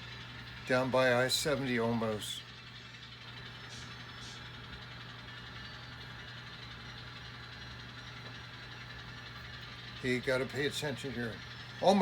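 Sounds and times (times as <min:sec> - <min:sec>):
model locomotive engine idling: 0:00.0 - 0:12.0.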